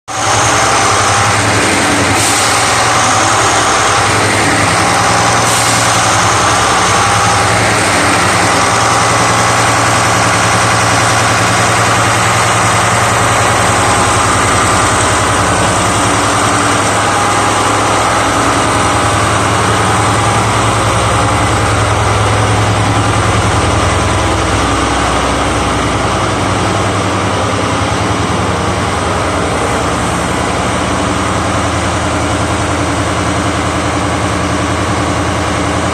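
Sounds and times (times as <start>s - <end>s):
diesel generator idling: 0.1s - 35.9s.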